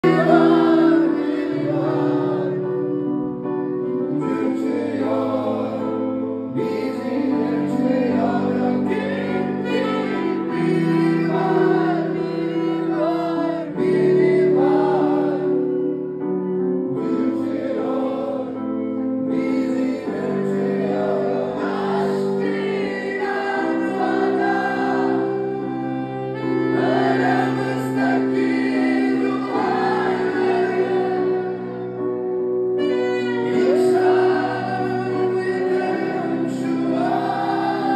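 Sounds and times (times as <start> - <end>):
man singing into a microphone: 0.0 - 3.0, 3.9 - 15.9, 16.8 - 26.0, 26.7 - 31.9, 32.8 - 37.9
keyboard held chords: 0.0 - 37.9.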